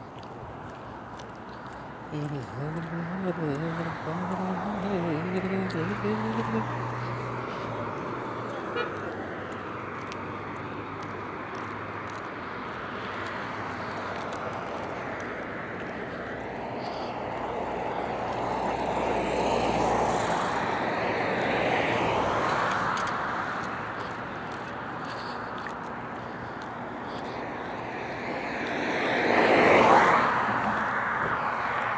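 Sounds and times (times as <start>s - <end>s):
road traffic passing: 0.0s - 31.9s.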